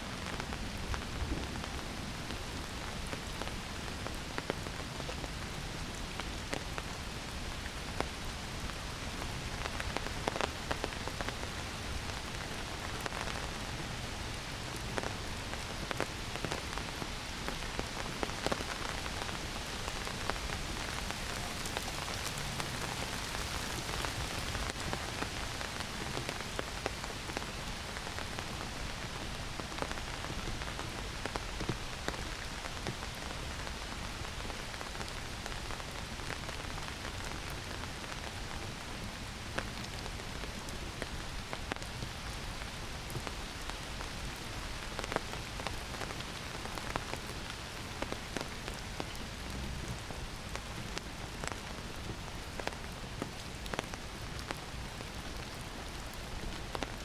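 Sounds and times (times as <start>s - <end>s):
heavy rain hissing: 0.0s - 57.0s
raindrops hitting: 0.0s - 57.0s.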